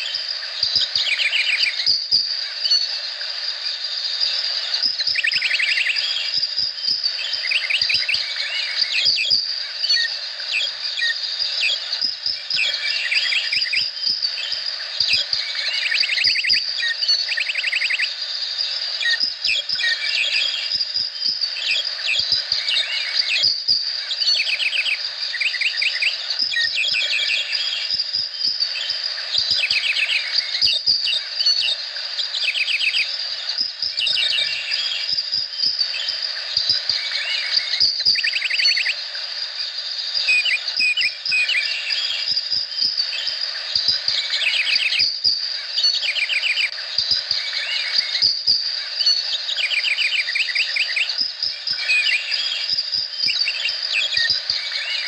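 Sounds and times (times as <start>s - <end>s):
birds calling and trilling: 0.0s - 55.0s
high-pitched insect drone: 0.0s - 55.0s.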